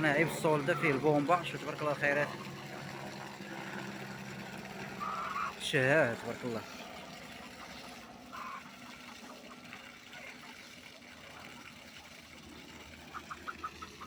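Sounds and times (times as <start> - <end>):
water running from pipe into basin: 0.0 - 14.0.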